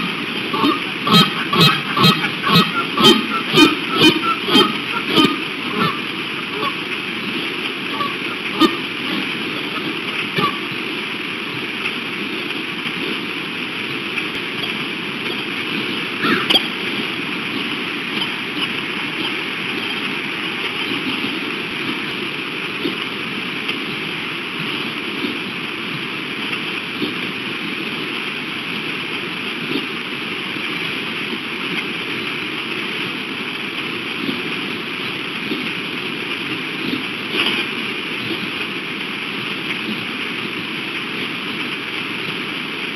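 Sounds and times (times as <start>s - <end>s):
stream water rushing: 0.0s - 42.9s.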